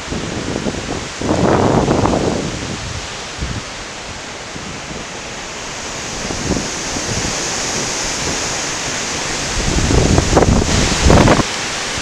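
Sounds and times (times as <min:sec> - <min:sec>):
wind buffeting microphone: 0:00.0 - 0:12.0
wind rushing through trees: 0:00.0 - 0:12.0.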